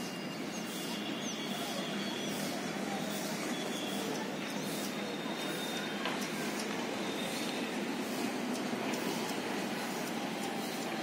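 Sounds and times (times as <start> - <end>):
distant train rumble: 0.0 - 11.0.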